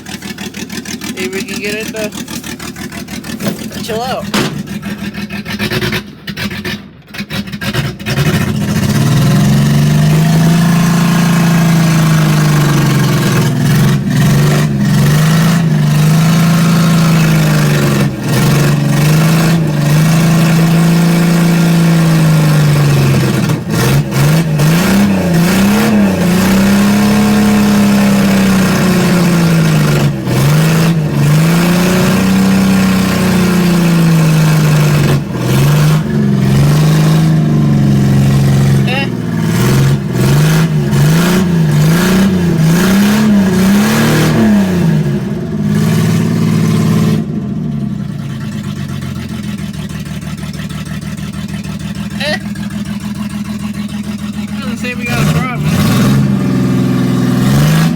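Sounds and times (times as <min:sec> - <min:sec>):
truck engine running rough: 0:00.0 - 0:57.9.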